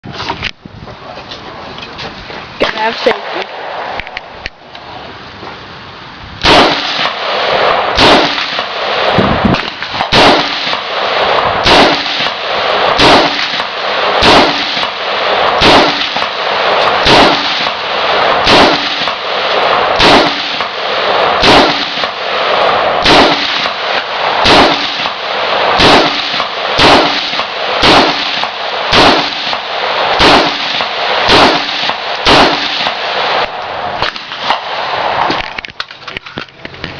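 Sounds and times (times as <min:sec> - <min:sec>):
rifle shots with loud echo: 0:02.6 - 0:04.6, 0:06.4 - 0:35.6.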